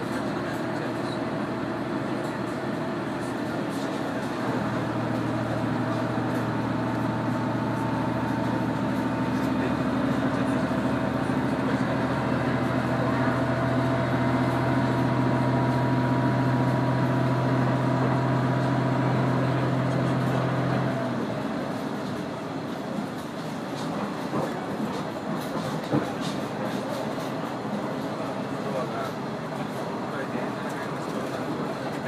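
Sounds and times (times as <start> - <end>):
train engine hum: 0.0 - 32.0
wheels running on rails: 0.0 - 32.0.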